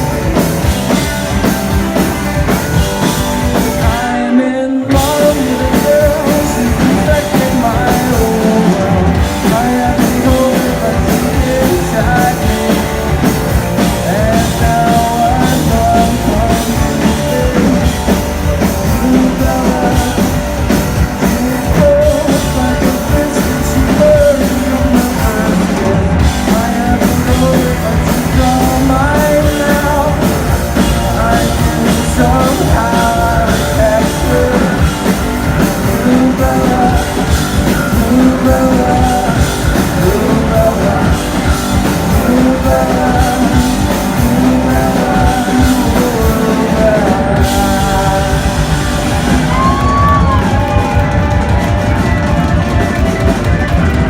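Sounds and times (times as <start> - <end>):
drums: 0.0 - 54.0
electric guitars: 0.0 - 54.0
live rock band playing: 0.0 - 54.0
person singing: 0.0 - 54.0.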